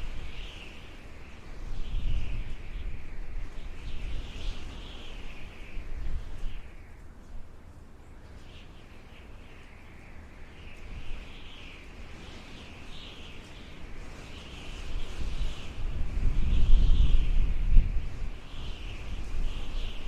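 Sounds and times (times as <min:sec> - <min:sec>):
howling wind: 0:00.0 - 0:20.0.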